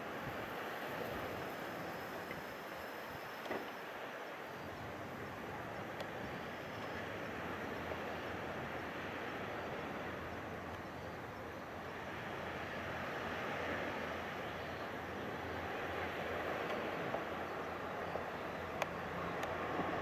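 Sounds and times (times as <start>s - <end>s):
distant diesel train rumble: 4.0s - 20.0s.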